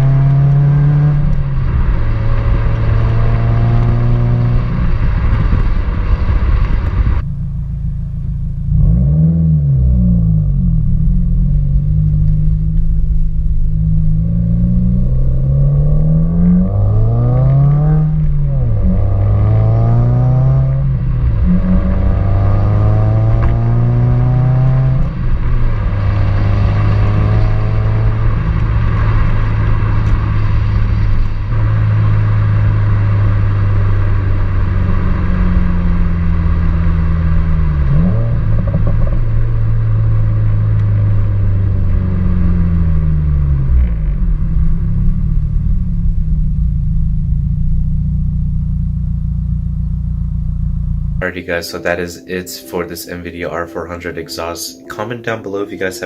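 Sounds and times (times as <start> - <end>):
turbocharged car engine exhaust: 0.0 - 51.3.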